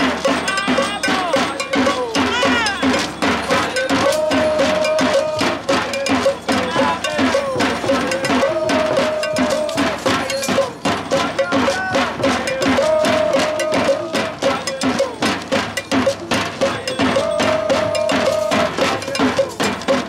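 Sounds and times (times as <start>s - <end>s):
cowbell struck in fast beat: 0.0s - 20.0s
drums: 0.0s - 20.0s
voices singing: 0.0s - 20.0s.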